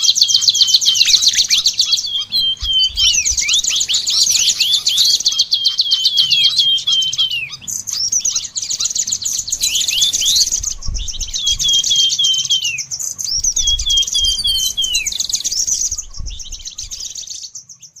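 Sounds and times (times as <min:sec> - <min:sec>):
high rapid bird trill: 0:00.0 - 0:18.0
songbird whistled phrases: 0:00.0 - 0:18.0.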